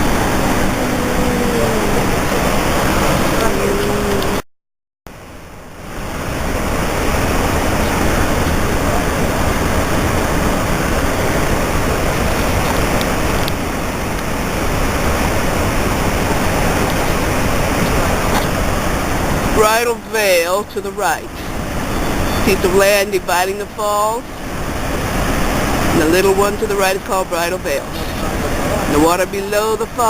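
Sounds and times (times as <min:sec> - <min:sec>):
waterfall roaring: 0:00.0 - 0:04.4, 0:05.1 - 0:30.0.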